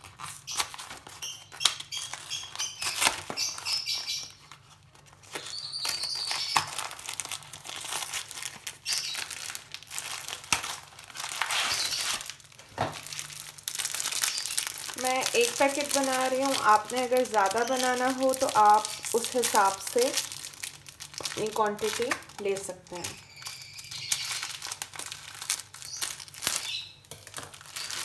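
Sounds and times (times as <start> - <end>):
plastic packet crinkling: 0.0 - 28.0.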